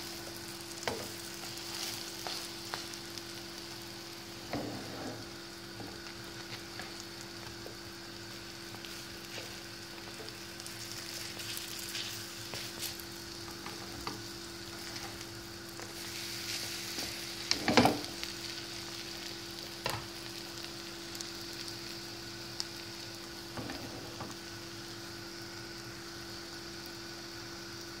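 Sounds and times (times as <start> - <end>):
bread sizzling in a frying pan: 0.0 - 28.0.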